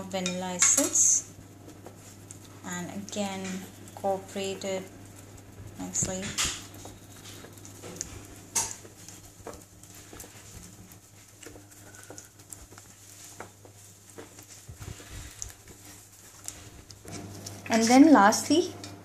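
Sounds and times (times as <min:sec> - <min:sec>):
whisk stirring batter: 0:00.0 - 0:18.7.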